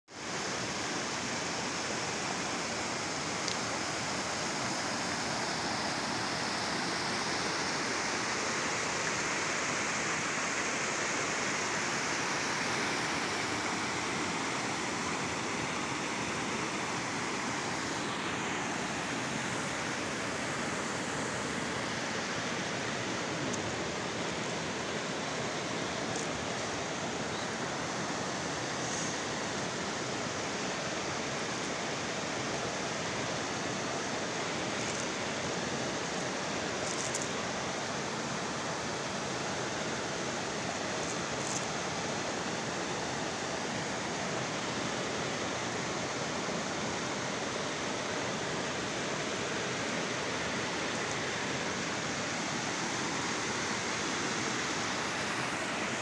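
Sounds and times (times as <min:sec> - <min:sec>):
river rushing over stones: 0:00.1 - 0:56.0.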